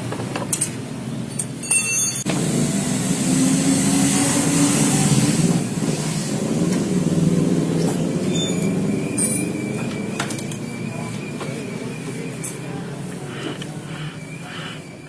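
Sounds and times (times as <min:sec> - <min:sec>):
rear wheel grinding rumble: 0:02.3 - 0:15.0.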